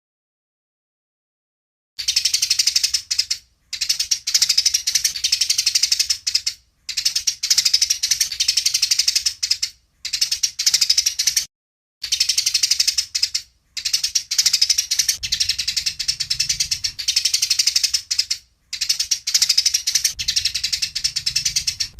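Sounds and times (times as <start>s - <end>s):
sparrows chattering: 2.0s - 21.9s.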